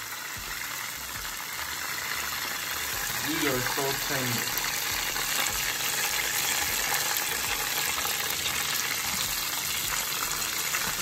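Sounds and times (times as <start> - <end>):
fish deep-frying in hot oil: 0.0 - 11.0.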